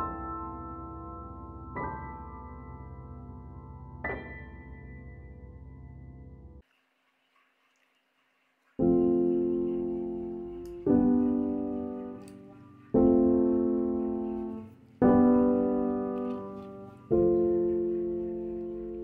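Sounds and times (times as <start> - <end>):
slow piano chords: 0.0 - 6.6, 8.8 - 19.0.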